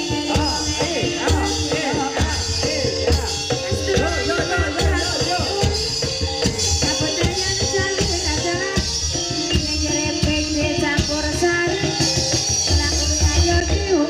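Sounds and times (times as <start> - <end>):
drum strokes: 0.0 - 14.0
pitched percussion melody: 0.0 - 14.0.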